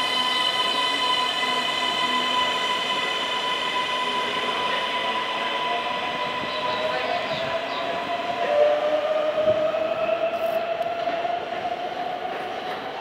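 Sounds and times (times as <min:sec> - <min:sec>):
electric train inverter whine: 0:00.0 - 0:12.9
train running noise: 0:00.0 - 0:13.0.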